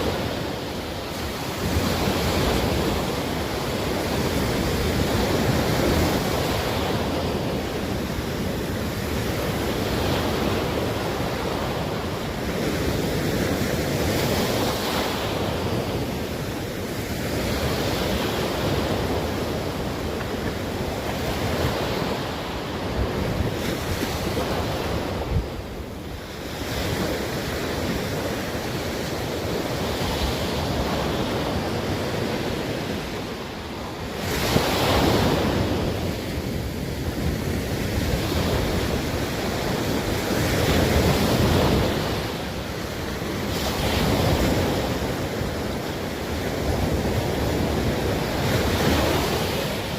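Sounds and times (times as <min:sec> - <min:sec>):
surf breaking on shore: 0:00.0 - 0:49.9
wind buffeting microphone: 0:00.0 - 0:49.9.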